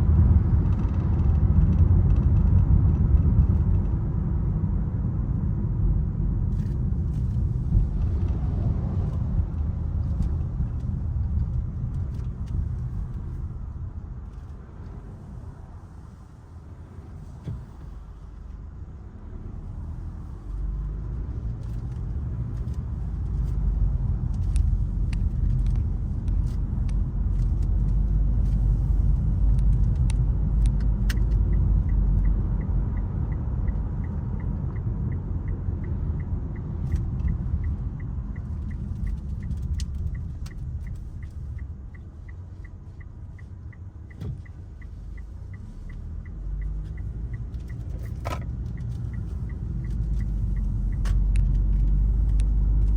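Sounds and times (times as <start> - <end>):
car cabin rumble: 0.0 - 52.9
turn signal ticking: 0.1 - 52.9.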